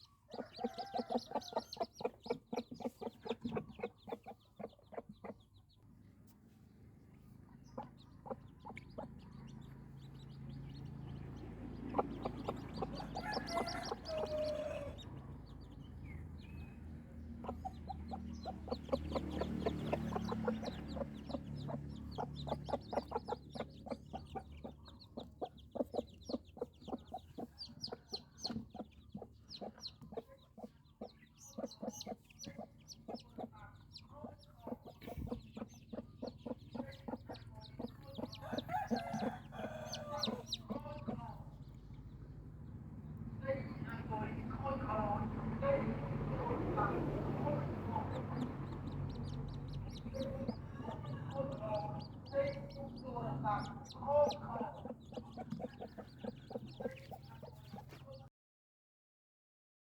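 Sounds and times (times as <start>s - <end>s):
chickens clucking: 0.0s - 58.3s.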